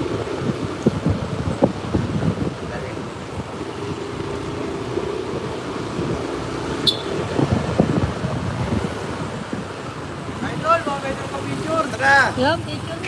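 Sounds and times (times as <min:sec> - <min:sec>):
motor scooter engines running: 0:00.0 - 0:13.0.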